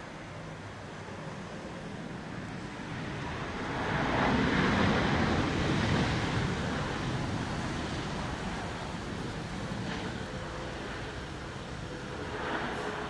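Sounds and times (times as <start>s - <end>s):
jet aircraft passing: 0.4s - 13.0s.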